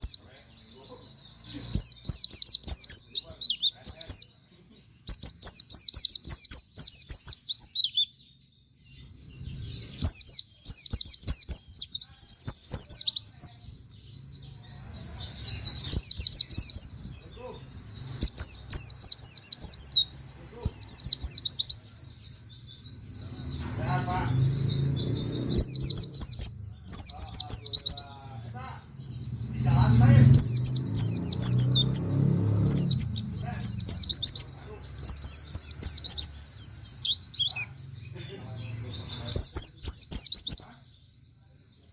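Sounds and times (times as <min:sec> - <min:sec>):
bird singing rapid high chirps: 0:00.0 - 0:41.9.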